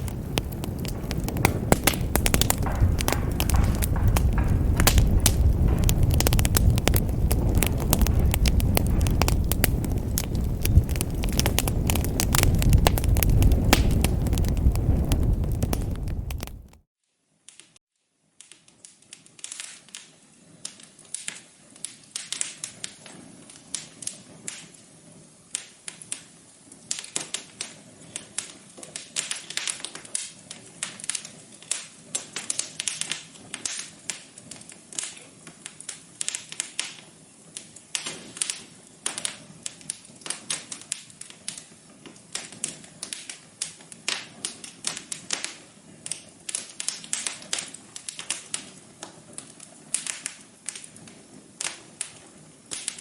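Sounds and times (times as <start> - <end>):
wood fire crackling: 0.0 - 16.9, 18.4 - 53.0.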